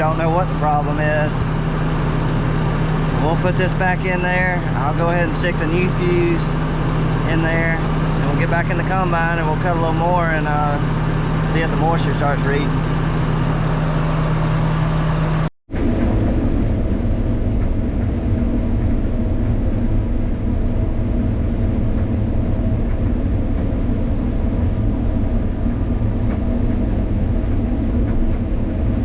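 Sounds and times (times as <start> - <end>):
combine harvester rumbling: 0.0 - 29.0.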